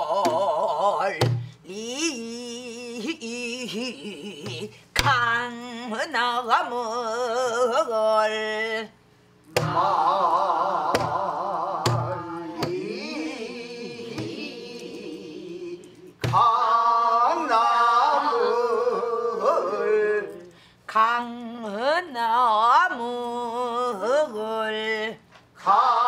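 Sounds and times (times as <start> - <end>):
woman singing with vibrato: 0.0 - 26.0.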